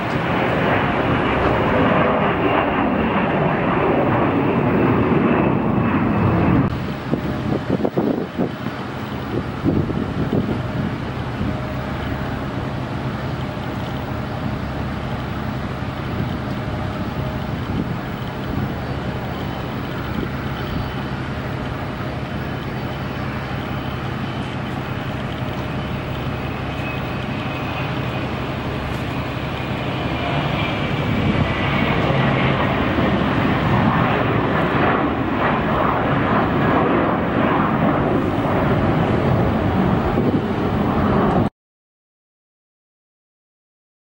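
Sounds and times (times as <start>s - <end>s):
jet airliner engines passing: 0.0s - 41.5s.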